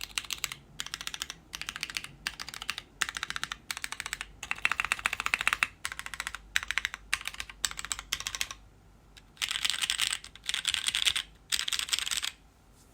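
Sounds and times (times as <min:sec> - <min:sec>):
mechanical keyboard typing: 0:00.0 - 0:08.6, 0:09.2 - 0:12.4.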